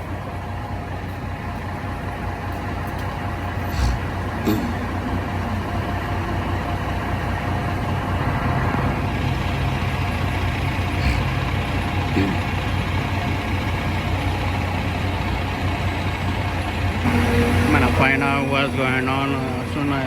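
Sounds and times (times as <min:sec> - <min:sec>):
street traffic rumbling: 0:00.0 - 0:20.0.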